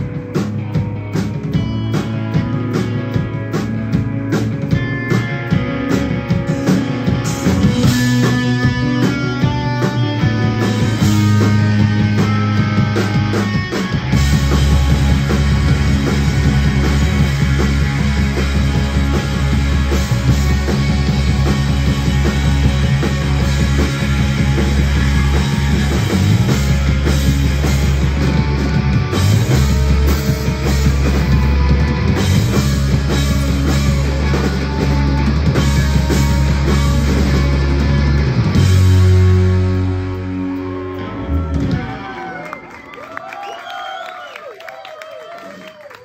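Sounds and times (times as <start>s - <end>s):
live rock band playing: 0.0s - 43.5s.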